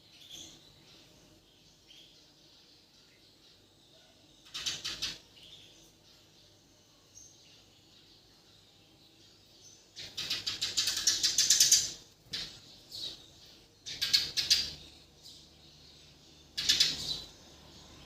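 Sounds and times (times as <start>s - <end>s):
bird singing chattering phrases: 0.0s - 18.0s.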